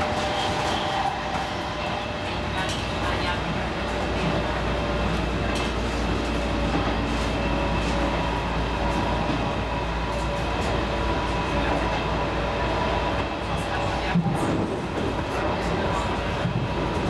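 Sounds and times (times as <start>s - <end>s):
train wheels rumbling on rail: 0.0s - 17.0s
train whine: 0.0s - 17.0s.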